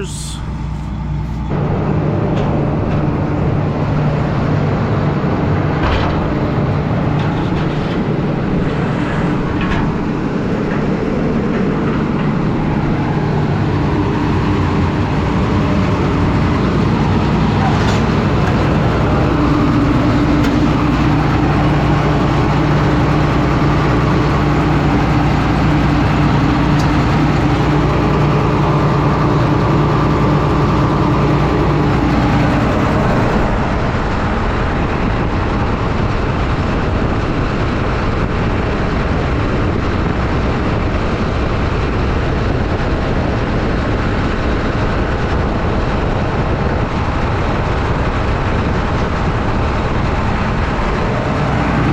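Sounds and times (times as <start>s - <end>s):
combine harvester engine droning: 0.0s - 51.9s
low hum: 0.0s - 51.9s
steady rushing noise: 0.0s - 51.9s.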